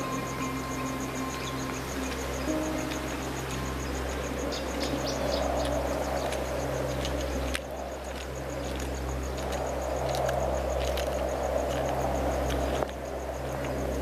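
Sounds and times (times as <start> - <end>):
insects chirping: 0.0 - 14.0
low steady hum: 0.0 - 14.0.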